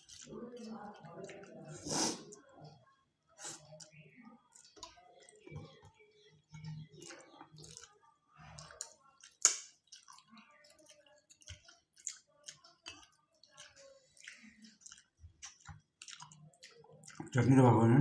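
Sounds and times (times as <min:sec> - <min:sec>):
chewing: 0:00.0 - 0:02.8, 0:03.4 - 0:17.6
fingers squishing rice on plates: 0:00.0 - 0:02.8, 0:03.4 - 0:17.3.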